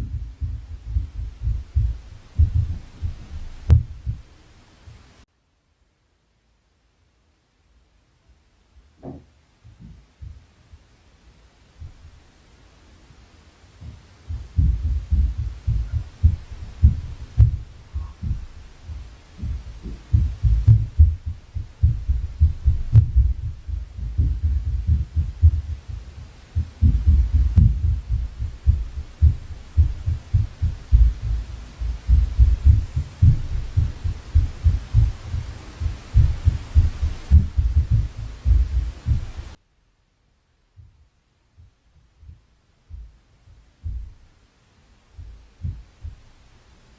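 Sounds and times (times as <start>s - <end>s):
footsteps thumping through ceiling: 0.0s - 5.2s, 8.8s - 10.9s, 11.7s - 12.4s, 13.0s - 39.6s, 40.8s - 44.5s, 45.1s - 46.5s.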